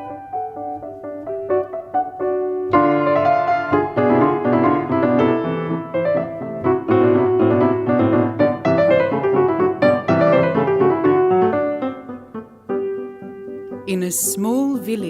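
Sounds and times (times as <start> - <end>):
solo piano classical piece: 0.0 - 15.0.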